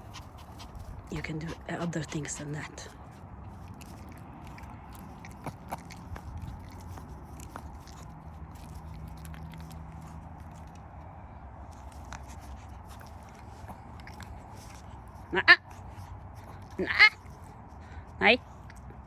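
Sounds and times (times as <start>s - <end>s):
dog chewing a treat: 0.0s - 19.0s.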